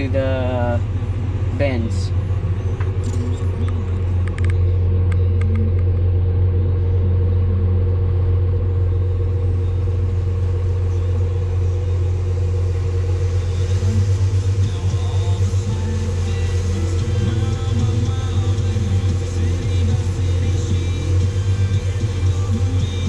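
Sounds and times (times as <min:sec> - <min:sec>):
higher hum: 0:00.0 - 0:23.0
tractor diesel engine drone: 0:00.0 - 0:23.0.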